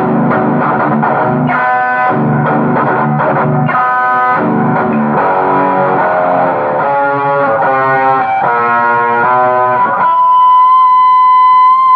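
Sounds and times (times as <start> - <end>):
distorted electric guitar melody: 0.0 - 11.9.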